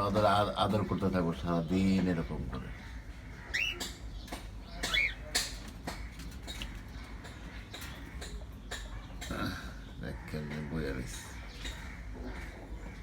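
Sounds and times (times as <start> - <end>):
pet bird chirping: 1.4 - 13.0.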